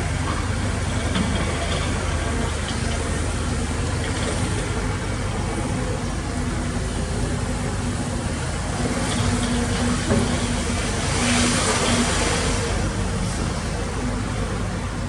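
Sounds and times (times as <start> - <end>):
deep diesel engine rumble: 0.0 - 15.0.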